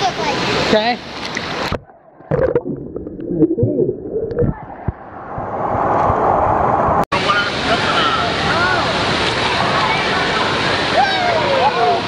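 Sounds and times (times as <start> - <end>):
rush of water: 0.0 - 12.0.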